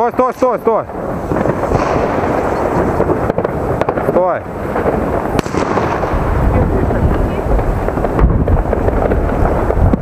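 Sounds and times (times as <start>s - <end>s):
distant fireworks rumble: 0.0s - 10.0s
sharp firework crack: 0.1s - 10.0s.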